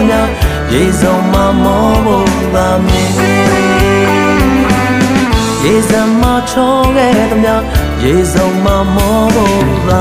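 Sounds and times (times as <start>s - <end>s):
backing music with steady beat: 0.0s - 10.0s
man singing: 0.0s - 10.0s.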